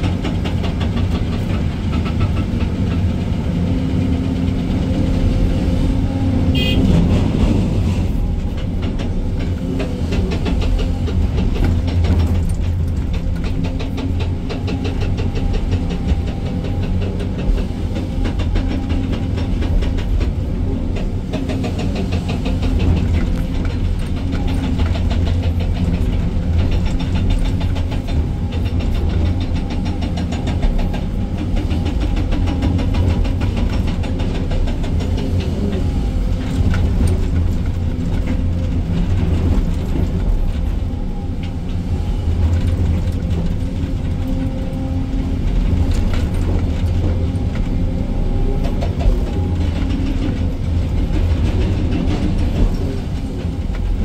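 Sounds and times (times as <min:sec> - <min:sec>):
excavator diesel engine running: 0:00.0 - 0:54.0
fast rhythmic clatter: 0:08.4 - 0:54.0.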